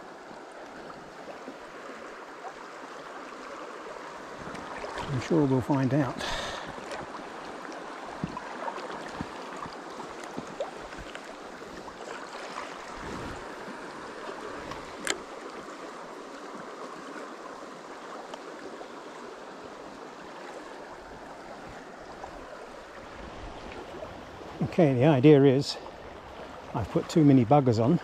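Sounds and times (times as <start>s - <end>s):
fast river water flowing: 0.0s - 28.0s.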